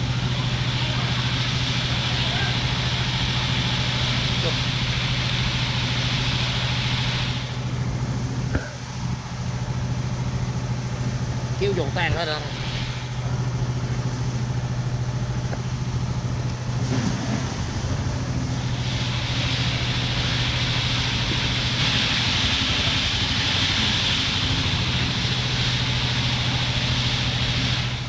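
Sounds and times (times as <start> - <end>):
engine idling: 0.0 - 28.0
hiss: 0.0 - 28.0.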